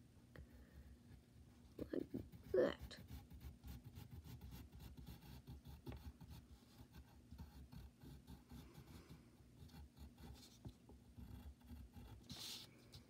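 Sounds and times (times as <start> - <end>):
pencil scratching on paper: 1.1 - 13.0.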